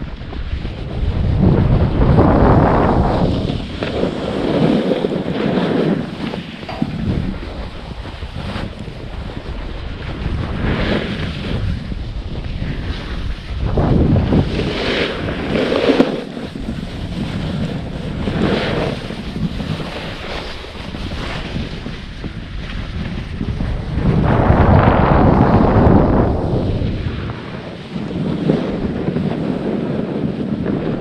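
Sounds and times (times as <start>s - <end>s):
wind rushing over microphone: 0.0s - 31.0s
snowboard edge scraping snow: 0.3s - 31.0s.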